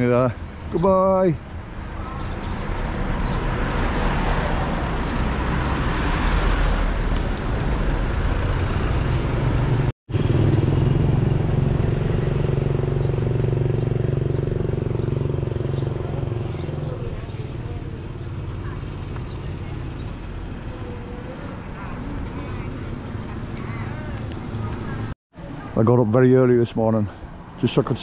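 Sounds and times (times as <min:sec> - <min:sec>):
motor vehicles running: 0:00.0 - 0:26.0.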